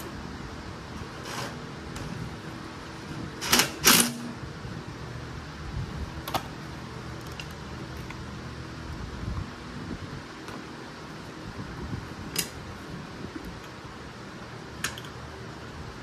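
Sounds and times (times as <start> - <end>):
electric fan blowing: 0.0 - 16.0.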